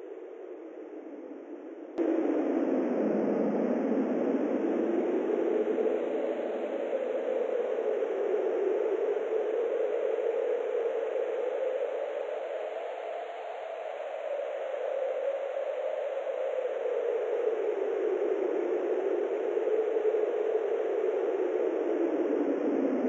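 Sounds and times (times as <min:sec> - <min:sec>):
steady wind-like rushing noise: 0:00.0 - 0:23.0.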